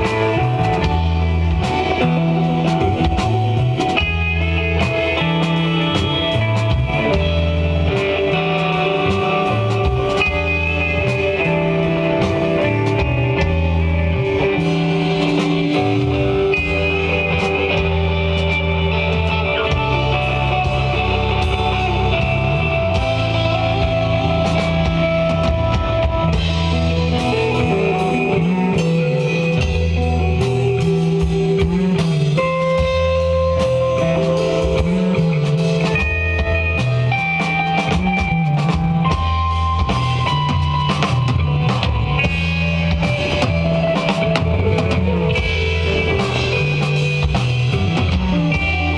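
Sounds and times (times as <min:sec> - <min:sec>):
bass guitar line: 0:00.0 - 0:48.9
drum kit with cymbal hits: 0:00.0 - 0:48.9
electric guitar lead notes: 0:00.0 - 0:48.9.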